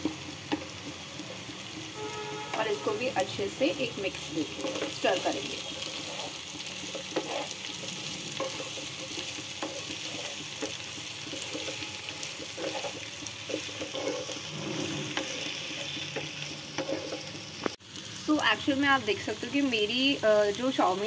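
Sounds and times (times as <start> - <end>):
wooden spatula scraping pan: 0.0 - 17.6
vegetables sizzling in hot oil: 0.0 - 21.0.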